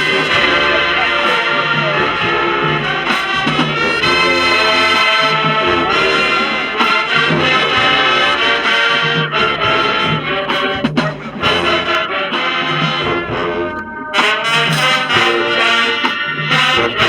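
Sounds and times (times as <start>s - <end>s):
marching band brass music: 0.0s - 17.0s.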